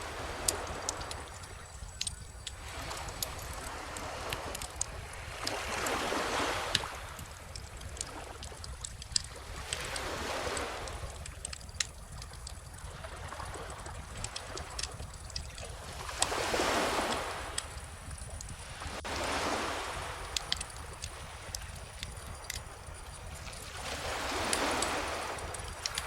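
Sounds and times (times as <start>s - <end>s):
bonfire crackling and popping: 0.0s - 26.0s
ocean waves washing ashore: 0.0s - 26.0s.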